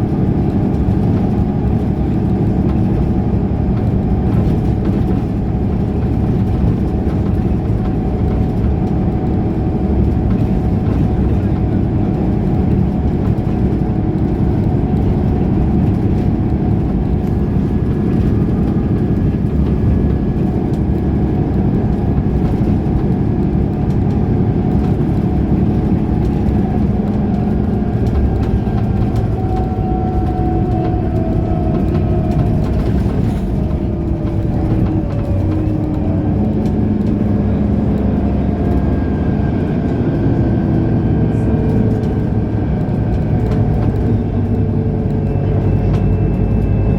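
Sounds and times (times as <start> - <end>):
bus engine rumbling and whining: 0.0 - 46.9.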